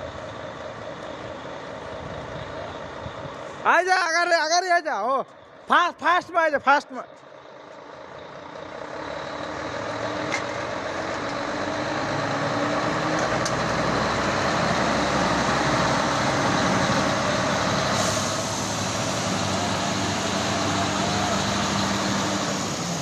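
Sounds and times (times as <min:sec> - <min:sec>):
truck engine approaching: 0:00.0 - 0:23.0.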